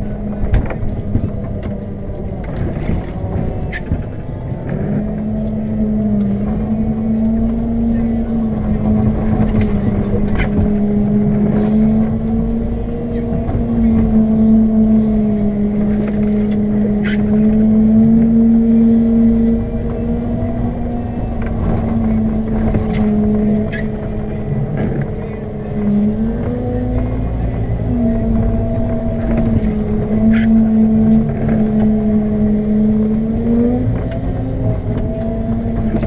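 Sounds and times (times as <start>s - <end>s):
diesel loader engine droning: 0.0s - 36.0s.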